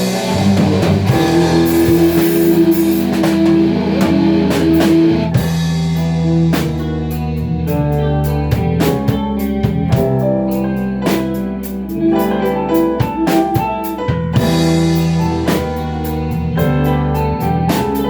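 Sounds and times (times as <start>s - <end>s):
drum kit beat: 0.0s - 18.0s
keyboard and guitar chords: 0.0s - 18.0s.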